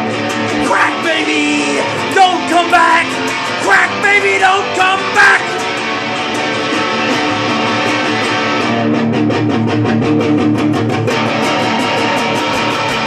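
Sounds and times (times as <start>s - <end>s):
fast guitar strums: 0.0s - 13.0s
guitar chords: 0.0s - 13.0s.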